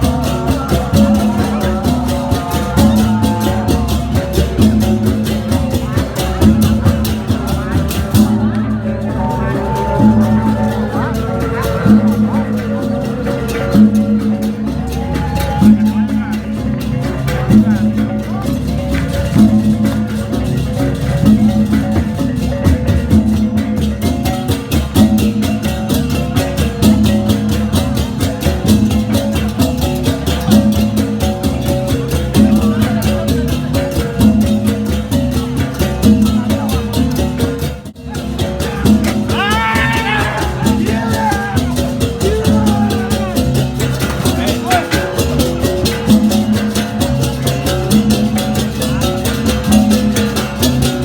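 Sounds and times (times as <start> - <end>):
voice: 0.0 - 22.8, 32.2 - 51.0
music with fast percussion: 0.0 - 51.0.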